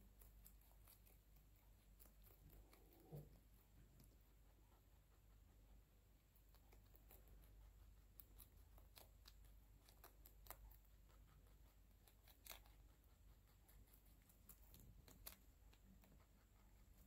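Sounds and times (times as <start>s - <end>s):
rabbit crunching leaf: 0.0s - 17.0s.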